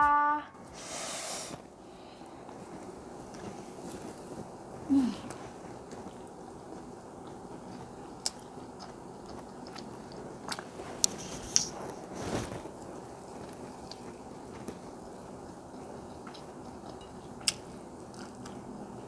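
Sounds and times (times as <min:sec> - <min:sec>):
person chewing with wet mouth sounds: 0:02.3 - 0:19.0.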